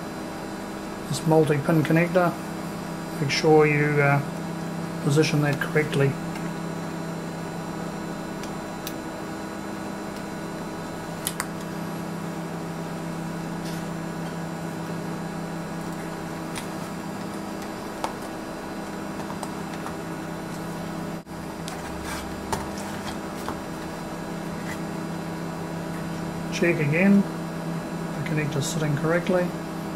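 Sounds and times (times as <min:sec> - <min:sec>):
low background hum: 0:00.0 - 0:29.9.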